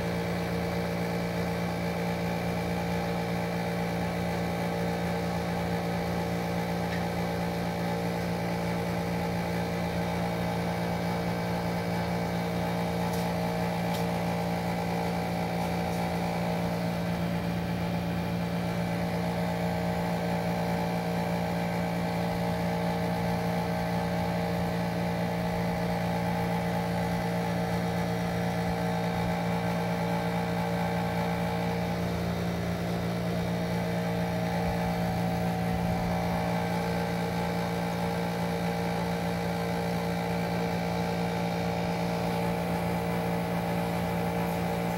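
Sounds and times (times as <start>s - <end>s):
machine hum: 5.6s - 44.9s.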